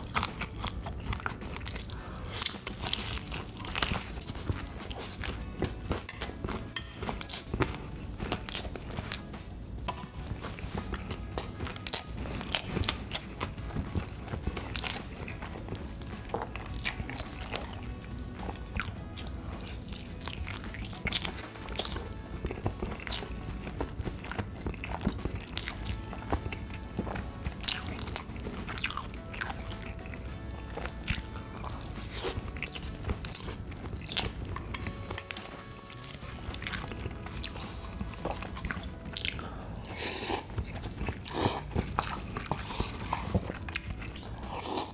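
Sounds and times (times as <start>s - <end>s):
person chewing crunchy food: 0.0s - 44.9s
quiet background music: 0.0s - 44.9s.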